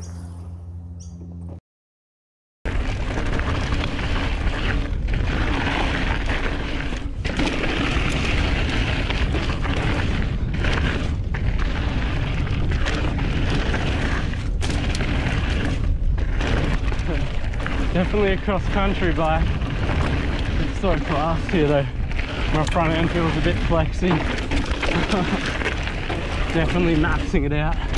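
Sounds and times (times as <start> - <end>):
wind buffeting microphone: 2.7 - 27.9.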